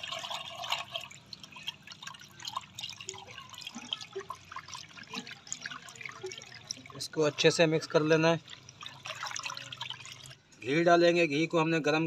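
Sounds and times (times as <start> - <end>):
small splashes and drips: 0.0 - 10.7.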